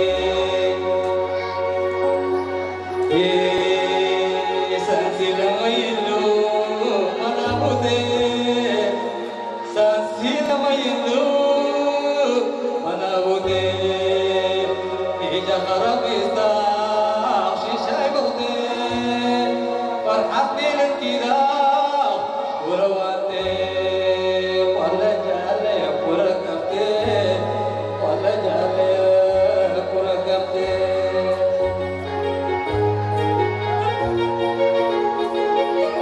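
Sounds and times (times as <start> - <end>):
electronic keyboard: 0.0 - 36.0
man singing into a microphone: 0.0 - 36.0.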